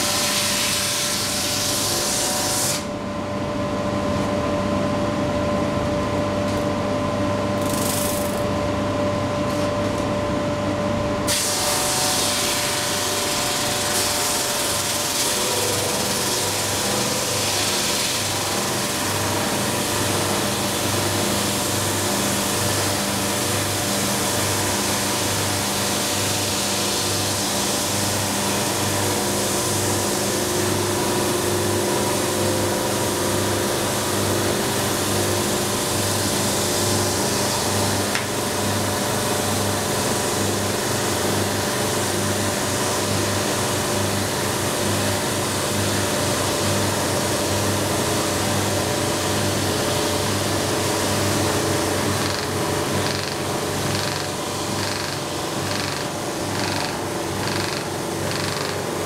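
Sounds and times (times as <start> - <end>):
drum sander machine hum: 0.0 - 59.0.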